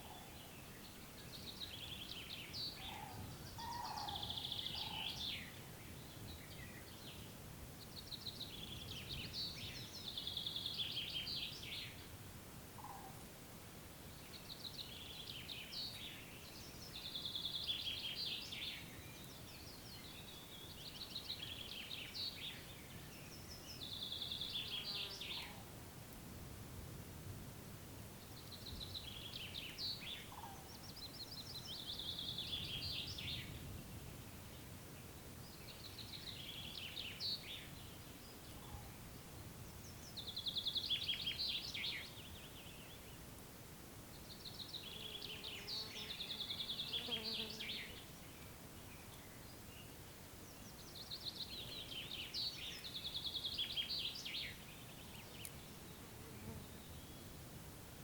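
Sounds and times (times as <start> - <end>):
songbird singing: 0.0 - 13.3, 14.0 - 25.8, 28.1 - 43.4, 44.0 - 57.6
faint background hiss: 0.0 - 58.0.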